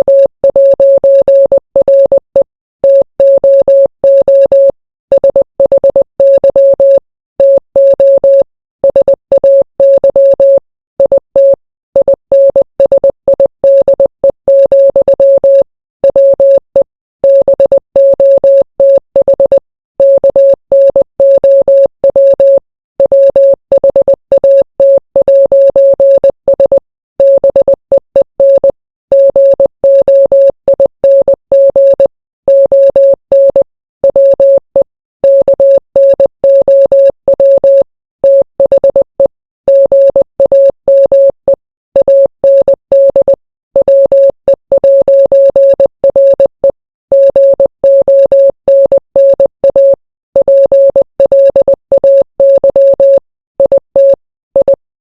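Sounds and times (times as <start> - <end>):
morse code beeps: 0.0 - 54.8.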